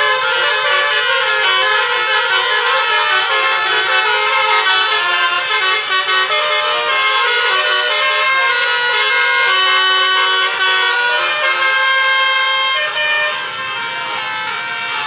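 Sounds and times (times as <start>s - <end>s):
multi-tone bus horns playing melody: 0.0s - 15.0s.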